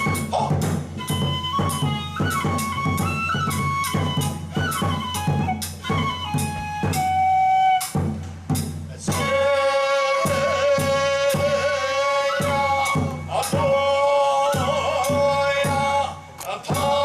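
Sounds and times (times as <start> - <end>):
bamboo flute melody: 0.0 - 17.0
drum beat: 0.0 - 17.0.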